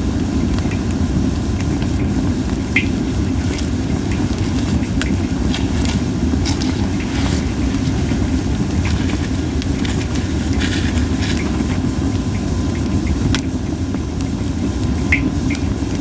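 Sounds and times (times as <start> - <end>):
fire hissing: 0.0 - 16.0
logs crackling in a campfire: 0.2 - 16.0.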